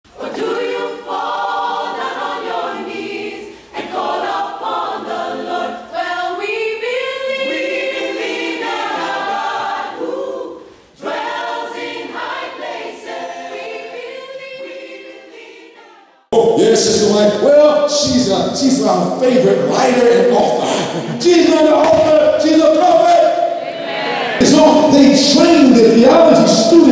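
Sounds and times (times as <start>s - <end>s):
choir singing: 0.1s - 26.9s.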